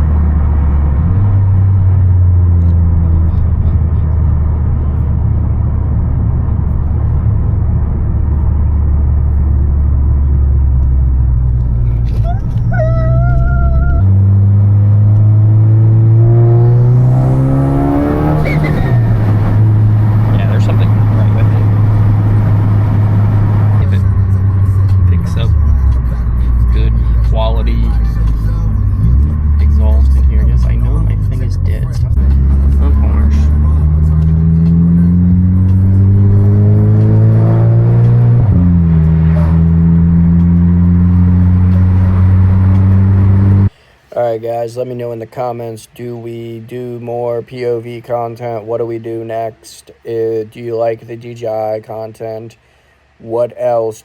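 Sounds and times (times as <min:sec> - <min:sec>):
turbocharged engine accelerating: 0:00.0 - 0:43.7.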